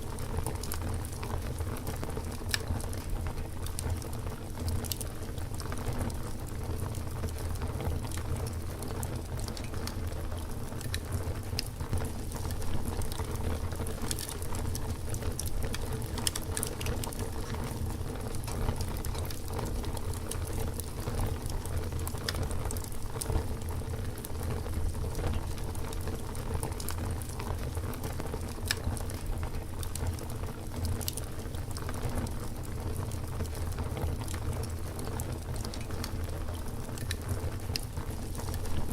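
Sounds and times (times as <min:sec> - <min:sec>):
campfire crackles and pops: 0:00.0 - 0:38.9
low rumble of flame: 0:00.0 - 0:38.9.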